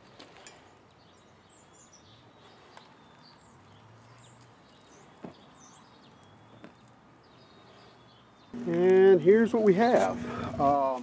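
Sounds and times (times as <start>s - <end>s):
distant small birds chirping: 0.0s - 10.7s.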